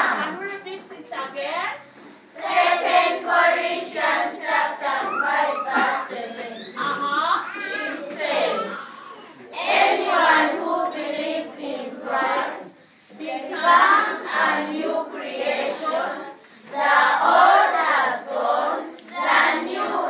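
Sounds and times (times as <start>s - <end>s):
children singing in unison: 2.2s - 20.0s.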